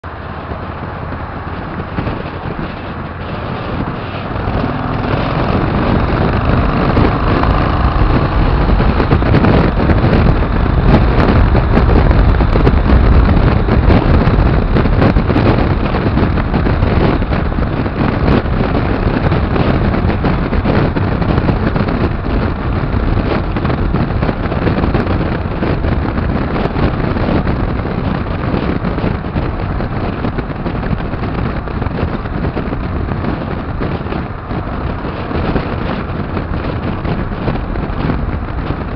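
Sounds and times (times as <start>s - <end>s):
road noise: 0.0s - 38.9s
wind buffeting microphone: 0.0s - 38.9s.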